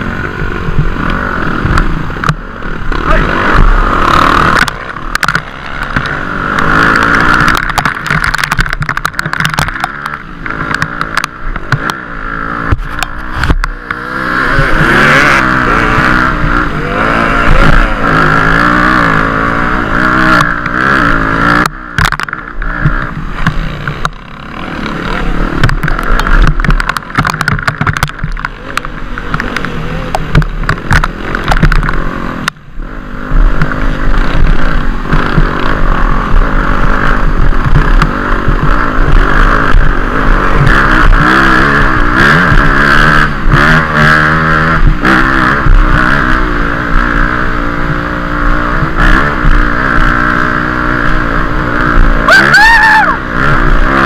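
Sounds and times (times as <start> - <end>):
dirt bike engine revving: 0.0 - 54.0
knocks and clatter from bike: 0.4 - 2.5, 3.1 - 16.6, 17.2 - 52.3.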